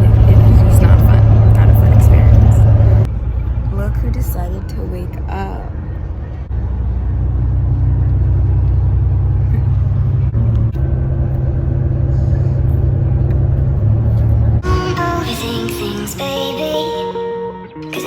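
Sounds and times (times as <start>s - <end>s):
vehicle engine rumble: 0.0s - 16.3s
road noise: 0.0s - 18.0s.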